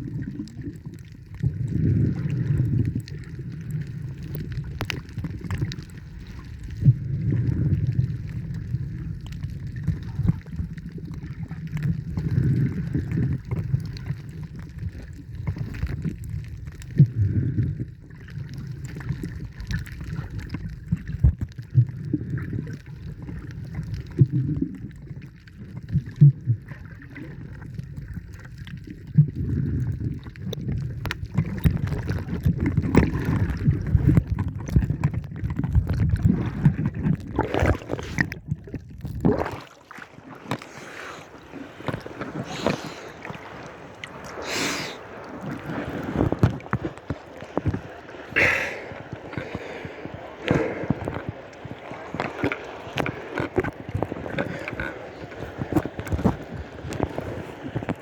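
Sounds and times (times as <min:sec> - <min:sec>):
seawater sloshing and gurgling: 0:00.0 - 0:58.0.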